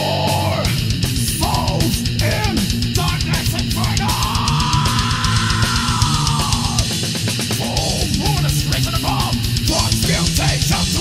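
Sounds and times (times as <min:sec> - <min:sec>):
distorted guitars: 0:00.0 - 0:11.0
fast metal drumming: 0:00.2 - 0:11.0.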